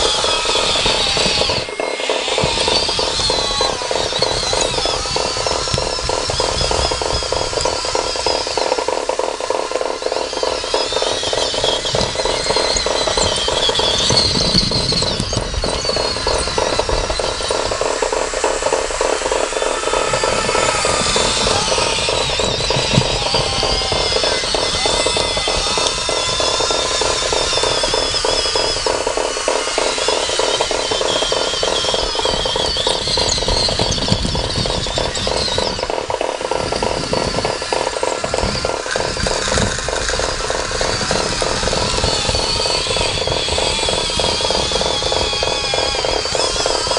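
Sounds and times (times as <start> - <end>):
rapid mechanical rattle of toy machines: 0.0 - 46.9
wavering electric motor whines: 0.0 - 46.9.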